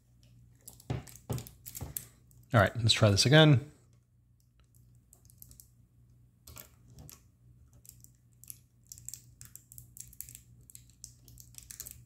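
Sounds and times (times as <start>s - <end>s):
ribbon cables clicking and crinkling: 0.2s - 2.5s, 3.8s - 5.8s, 6.4s - 12.0s.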